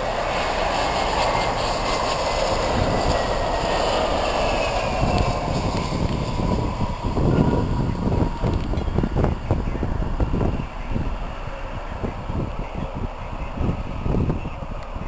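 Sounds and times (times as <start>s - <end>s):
engine whine falling in pitch: 0.0s - 15.0s
jet engine roar: 0.0s - 15.0s.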